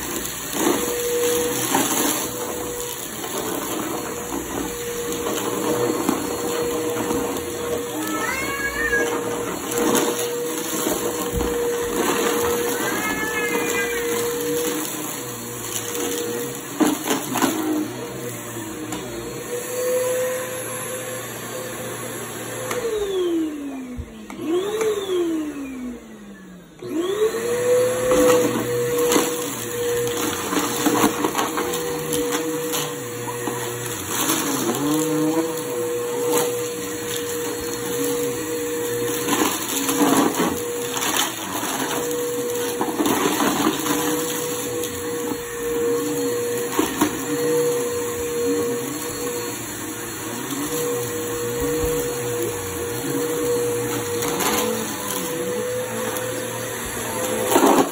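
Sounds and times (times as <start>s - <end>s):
debris rattling in vacuum: 0.0s - 20.0s, 26.9s - 57.9s
vacuum cleaner running: 0.0s - 57.9s.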